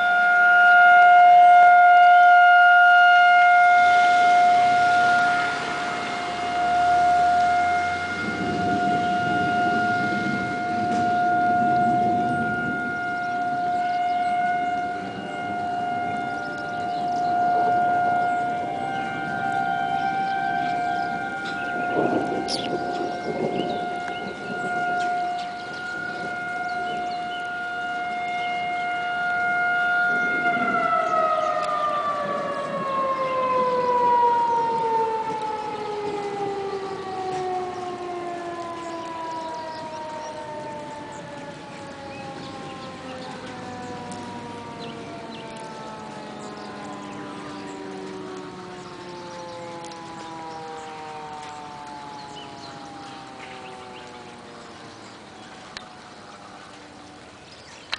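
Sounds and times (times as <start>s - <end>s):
higher-pitched siren tone: 0.0s - 57.4s
warning siren steady tone: 0.0s - 57.9s.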